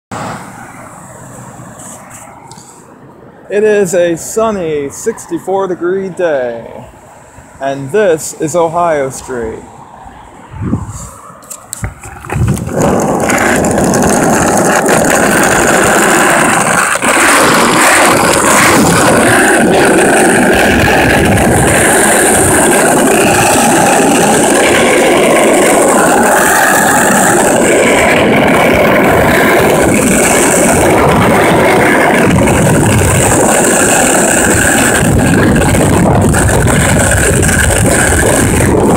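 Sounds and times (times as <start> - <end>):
skateboard wheels rolling on asphalt: 0.1 - 38.9.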